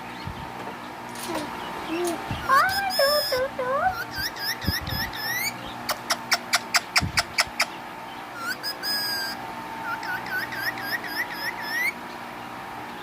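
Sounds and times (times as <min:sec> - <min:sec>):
parakeet chirping: 0:01.5 - 0:12.0.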